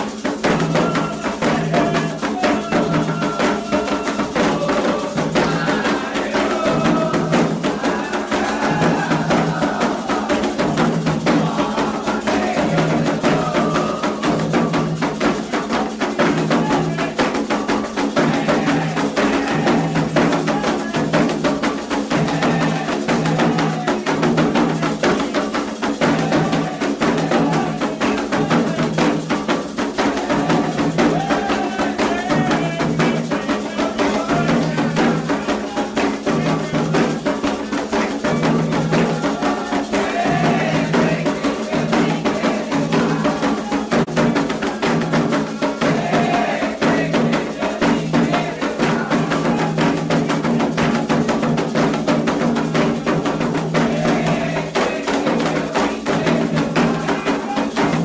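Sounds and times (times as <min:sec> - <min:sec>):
hand drums beating fast rhythm: 0:00.0 - 0:58.0
high clacking percussion: 0:00.0 - 0:58.0
voices singing: 0:00.0 - 0:58.0.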